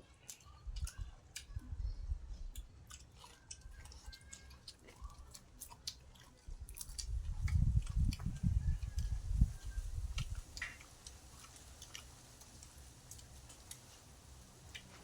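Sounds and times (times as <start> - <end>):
person chewing food: 0.0 - 1.6, 2.4 - 15.0.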